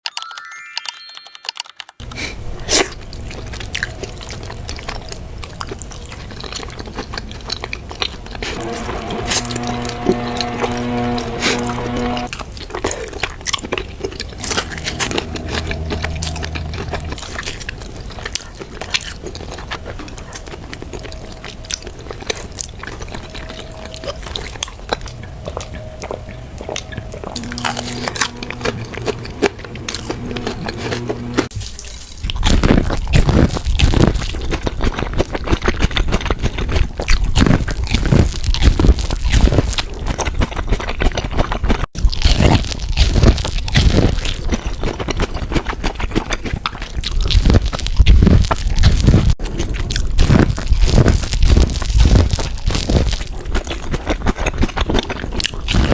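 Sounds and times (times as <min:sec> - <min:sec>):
crunchy chewing of corn: 0:02.0 - 0:55.9.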